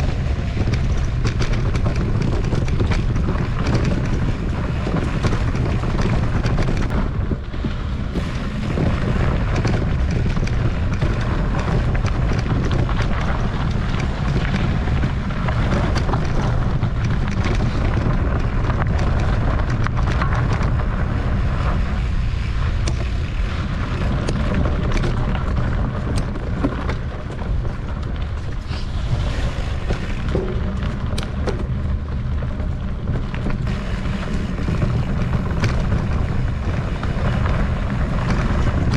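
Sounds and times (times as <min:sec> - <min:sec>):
bike clicks and rattles: 0:00.0 - 0:38.9
wind buffeting microphone: 0:00.0 - 0:38.9.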